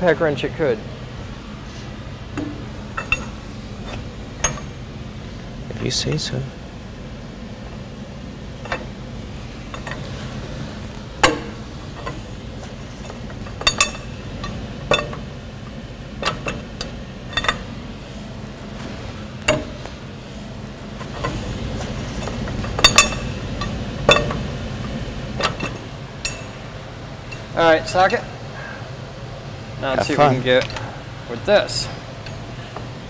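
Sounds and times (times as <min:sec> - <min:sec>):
low shop hum: 0:00.0 - 0:33.0.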